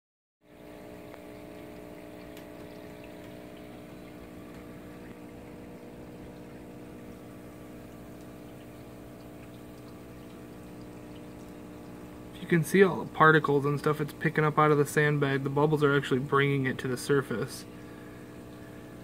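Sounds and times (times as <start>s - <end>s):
pump hum with held tones: 0.4s - 19.0s
moving water: 0.5s - 19.0s.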